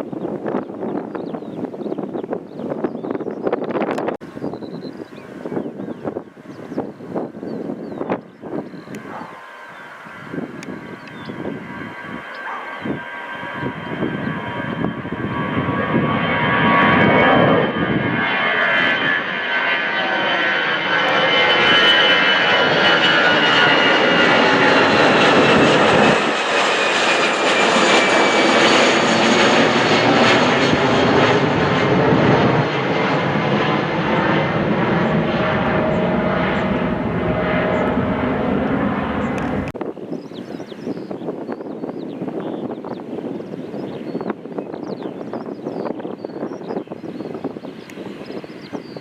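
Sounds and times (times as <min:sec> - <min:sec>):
jet airliner engines passing: 0:00.0 - 0:49.0.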